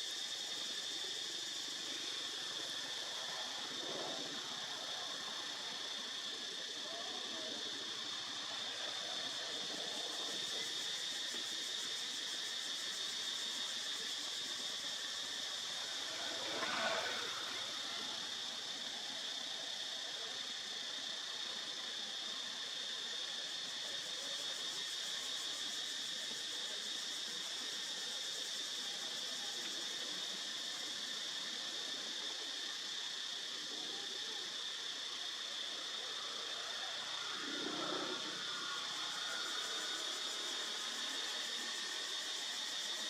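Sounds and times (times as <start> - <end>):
faint hiss: 0.0 - 43.0
high-pitched insect drone: 0.0 - 43.0.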